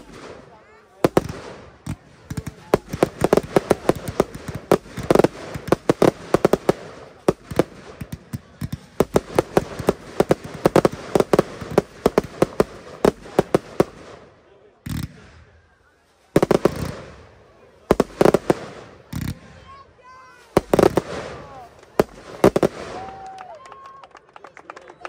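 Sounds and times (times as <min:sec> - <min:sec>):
fireworks bangs and pops: 0:00.0 - 0:23.9.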